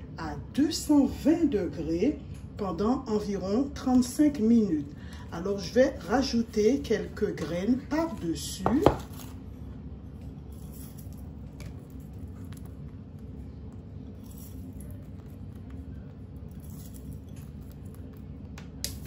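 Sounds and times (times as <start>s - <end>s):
low kitchen hum: 0.0s - 19.0s.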